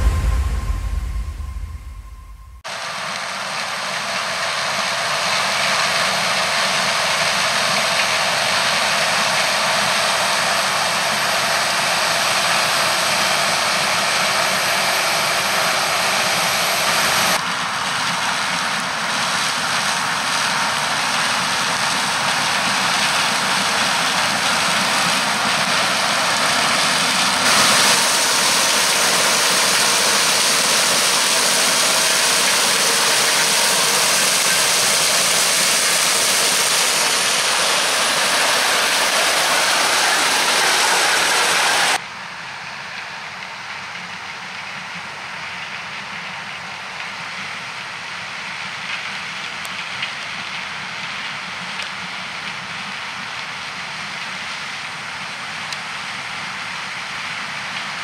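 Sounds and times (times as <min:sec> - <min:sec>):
combine harvester working: 0:00.0 - 0:58.0.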